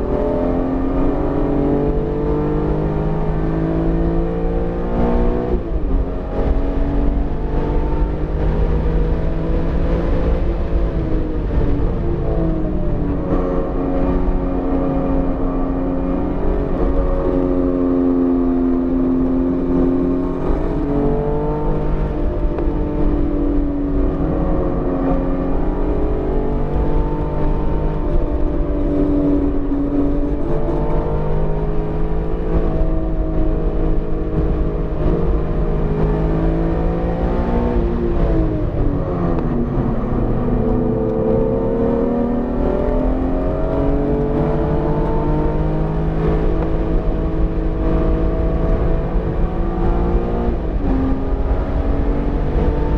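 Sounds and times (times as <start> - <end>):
car engine under load: 0.0 - 52.9.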